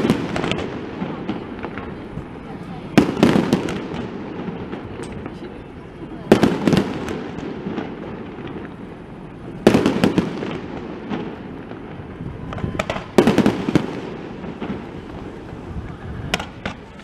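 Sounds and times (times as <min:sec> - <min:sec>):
scattered firework pops: 0:00.0 - 0:02.3, 0:02.9 - 0:05.6, 0:06.2 - 0:08.8, 0:09.6 - 0:17.0
firework crackling: 0:00.0 - 0:17.0
fireworks exploding: 0:00.0 - 0:17.0.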